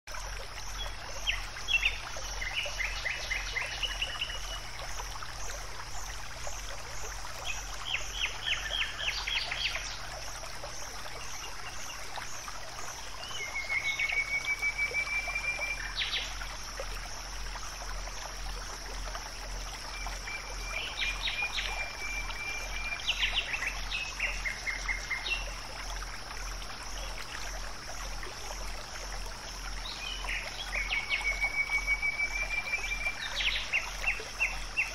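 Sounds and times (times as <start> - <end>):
pulsing insect chorus: 0.1 - 34.9.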